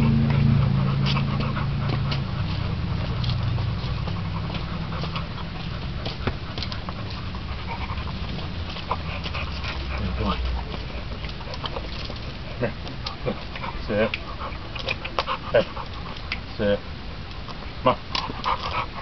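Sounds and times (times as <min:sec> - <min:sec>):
dog panting: 0:00.0 - 0:16.8, 0:17.6 - 0:19.0
low hum: 0:00.0 - 0:19.0.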